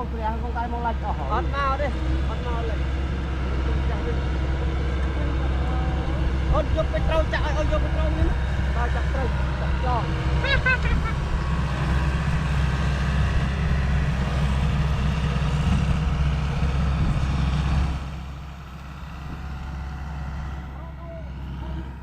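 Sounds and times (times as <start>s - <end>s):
machine engine droning: 0.0s - 22.0s.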